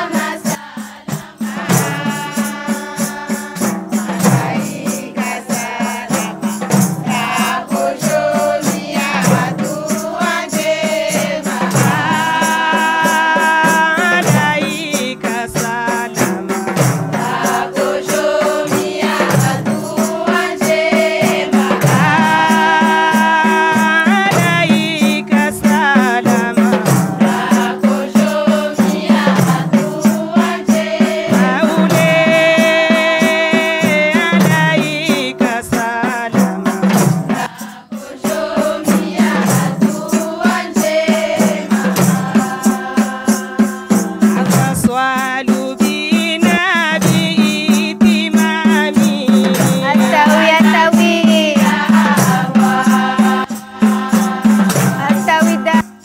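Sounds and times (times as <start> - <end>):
group singing devotional song: 0.0 - 56.0
hand percussion beat: 0.0 - 56.0.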